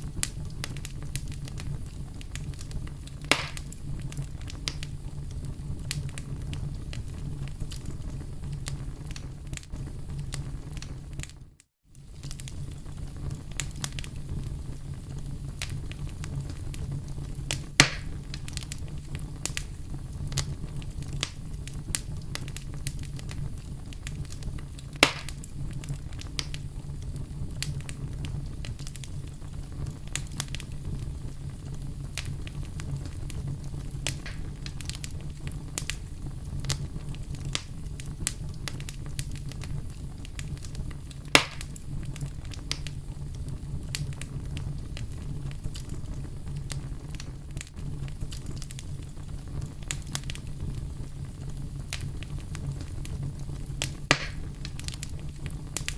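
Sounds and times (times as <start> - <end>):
loud sharp fire pops: 0.0 - 11.3, 15.3 - 31.2, 31.9 - 55.9
campfire crackling: 0.0 - 55.9.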